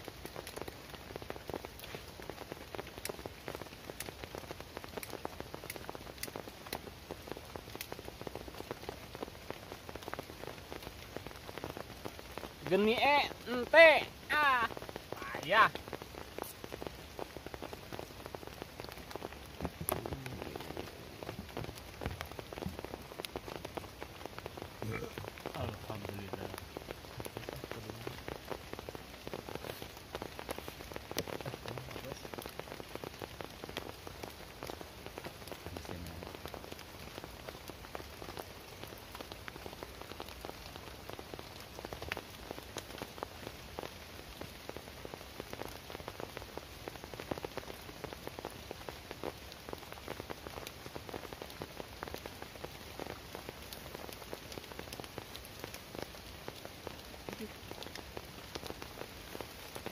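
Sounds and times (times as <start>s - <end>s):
heavy rain on a tarp: 0.0s - 59.9s.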